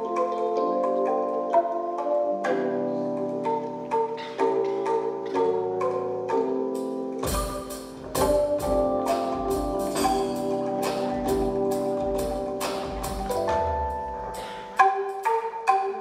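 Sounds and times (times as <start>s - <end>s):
tuned bamboo tubes ringing: 0.0s - 16.0s.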